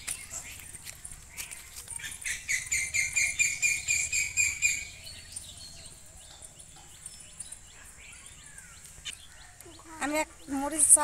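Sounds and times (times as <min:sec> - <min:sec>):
bird calling with ringing notes: 0:00.0 - 0:11.0
faint bird chirps: 0:00.0 - 0:11.0.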